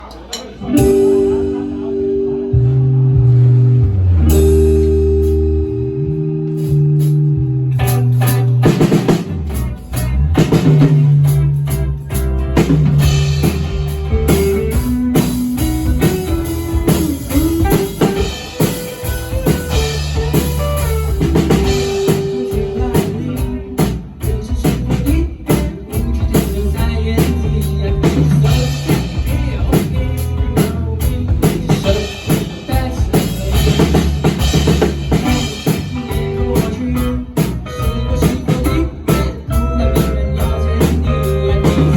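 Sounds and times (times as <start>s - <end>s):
drum kit: 0.0s - 41.9s
guitar playing: 0.6s - 41.9s
steady bass line: 0.7s - 41.9s.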